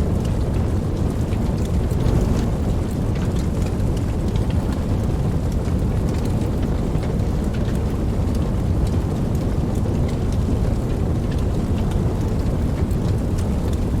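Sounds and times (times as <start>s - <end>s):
deep low rumble: 0.0s - 14.0s
raindrops ticking: 0.0s - 14.0s
steady rain: 0.0s - 14.0s.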